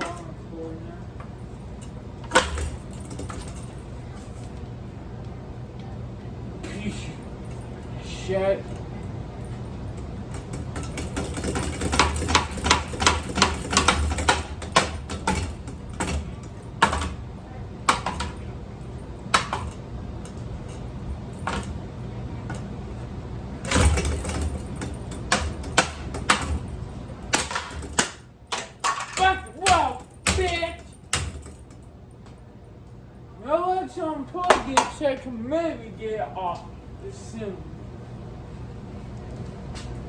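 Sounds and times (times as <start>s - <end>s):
ceiling fan parts clattering: 0.0s - 40.0s
steady low hum: 0.0s - 40.0s.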